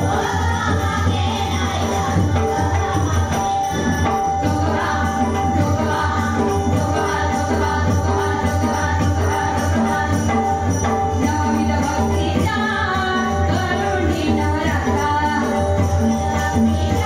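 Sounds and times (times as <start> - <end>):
group singing devotional song: 0.0 - 17.0
hand cymbals jingling: 0.0 - 17.0
music: 0.0 - 17.0.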